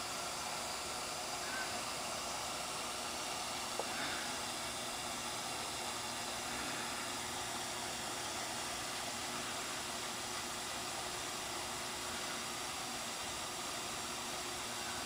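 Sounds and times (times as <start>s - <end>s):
aquarium pump hiss and hum: 0.0s - 15.0s.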